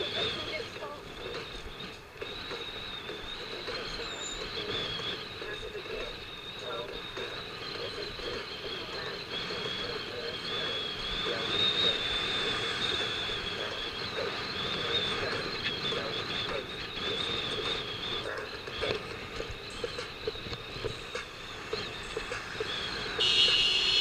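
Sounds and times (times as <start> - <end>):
high-pitched whine: 0.0 - 24.0
road traffic: 0.0 - 24.0.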